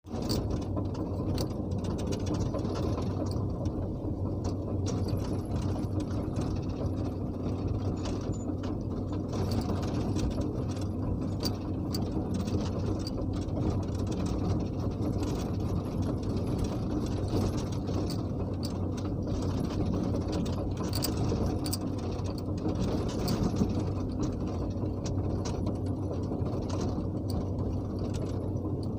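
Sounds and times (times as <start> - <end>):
clatter of clicks and rattles: 0.0 - 28.9
excavator engine hum: 0.1 - 28.9.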